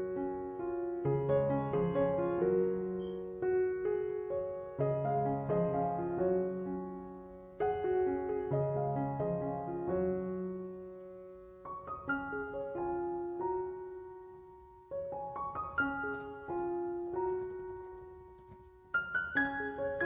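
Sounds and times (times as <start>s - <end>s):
slow solo piano music: 0.0s - 20.0s.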